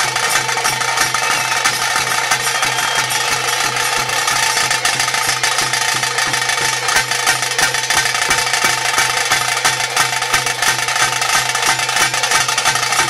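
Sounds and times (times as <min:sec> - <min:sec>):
fast dense drumming: 0:00.0 - 0:13.0.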